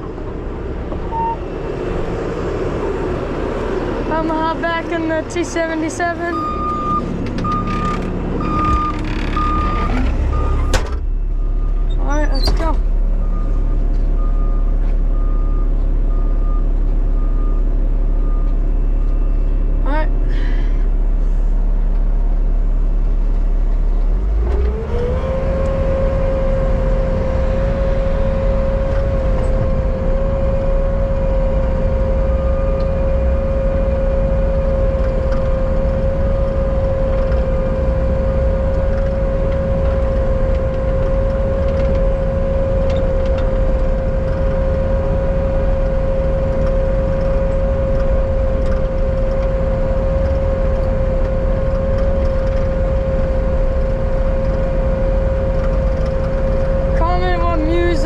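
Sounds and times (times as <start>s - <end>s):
diesel engine high-revving drone: 0.0s - 58.0s.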